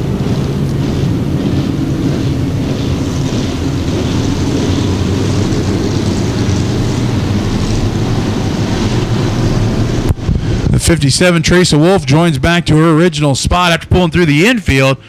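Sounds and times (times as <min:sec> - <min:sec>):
many car engines running together: 0:00.0 - 0:15.0.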